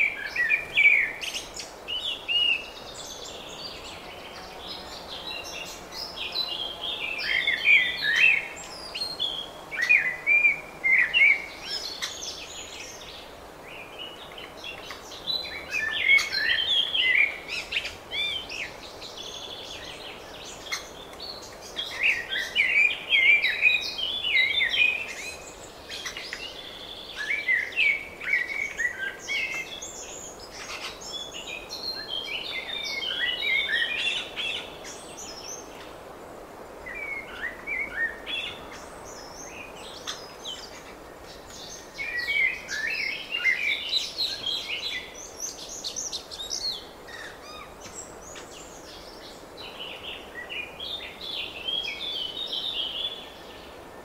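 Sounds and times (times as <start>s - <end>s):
faint steady hiss: 0.0s - 54.0s
songbirds twittering: 0.0s - 54.0s.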